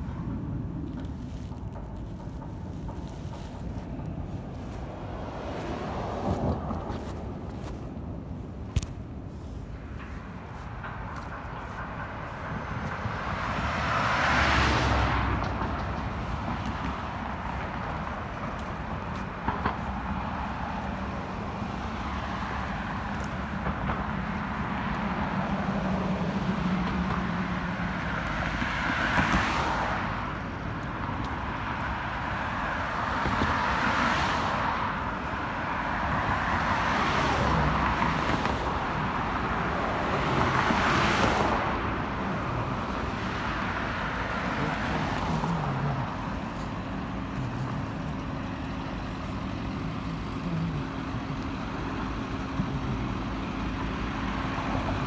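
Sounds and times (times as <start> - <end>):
steady background noise: 0.0 - 55.0
vehicles passing: 0.0 - 55.0.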